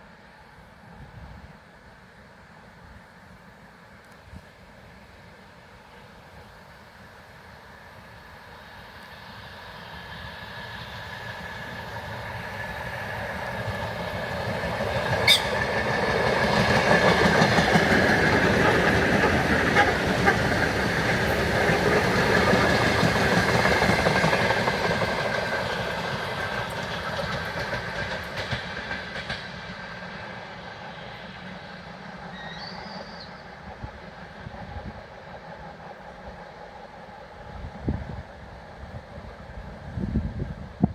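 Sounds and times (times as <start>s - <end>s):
high train whine: 0.0s - 40.9s
electric train passing: 4.9s - 40.9s.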